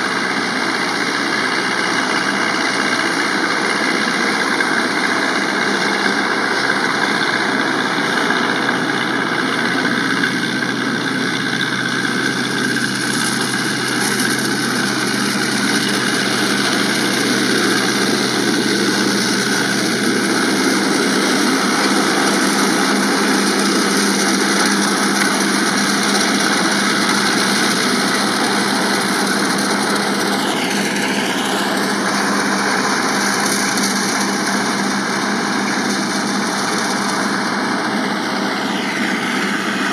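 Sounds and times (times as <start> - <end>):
straw chopper whirring: 0.0 - 39.9
tractor engine under load: 0.0 - 39.9.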